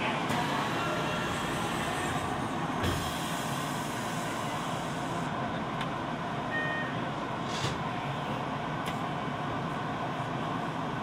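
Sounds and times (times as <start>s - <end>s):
subway train wheels on rails: 0.0s - 11.0s.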